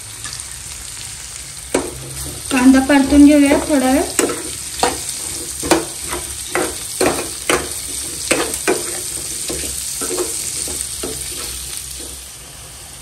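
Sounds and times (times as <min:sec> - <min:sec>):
onion sizzling in hot oil: 0:00.0 - 0:13.0
utensil scraping pan: 0:01.8 - 0:12.3.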